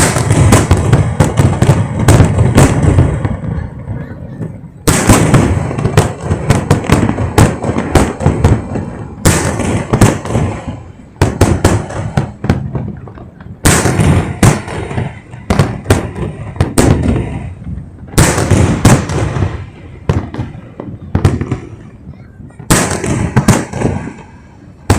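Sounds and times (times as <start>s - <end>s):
fireworks bangs and cracks: 0.0s - 24.9s.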